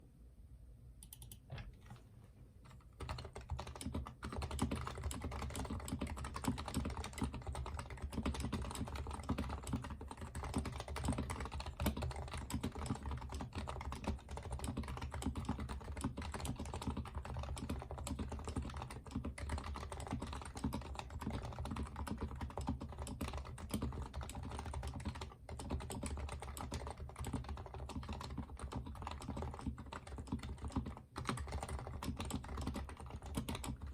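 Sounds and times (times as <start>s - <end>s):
keyboard typing: 1.0s - 33.9s.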